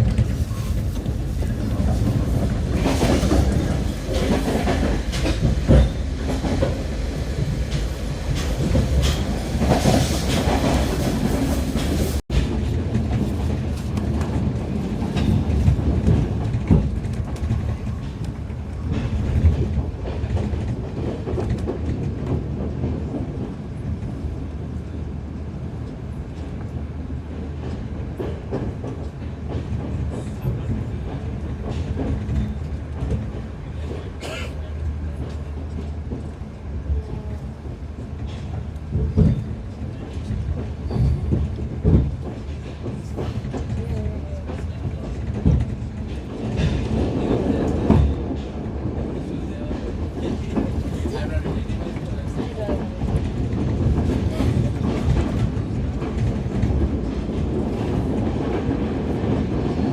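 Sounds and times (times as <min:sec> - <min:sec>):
train rumbling at speed: 0:00.0 - 0:59.9.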